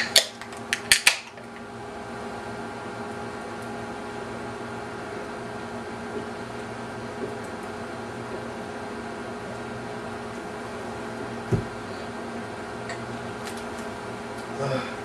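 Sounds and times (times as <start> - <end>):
steady hum with hiss: 0.0 - 15.0.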